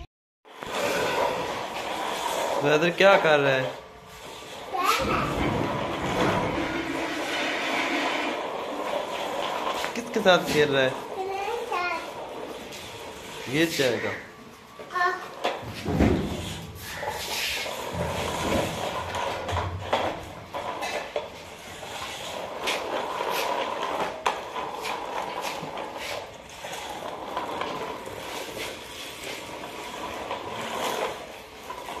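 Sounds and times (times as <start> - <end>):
toy wheels rolling on concrete: 0.5 - 32.0.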